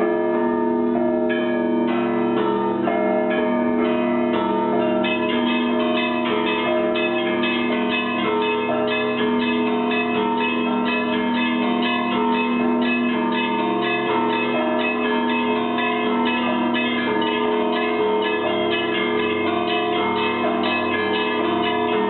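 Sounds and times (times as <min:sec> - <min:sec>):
large bells humming: 0:00.0 - 0:22.0.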